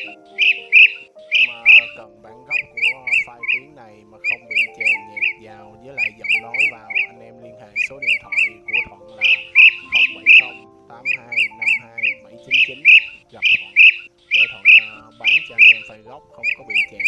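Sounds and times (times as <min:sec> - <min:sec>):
bee-eater rolling chirps: 0:00.0 - 0:17.0
soft background music: 0:00.0 - 0:17.0.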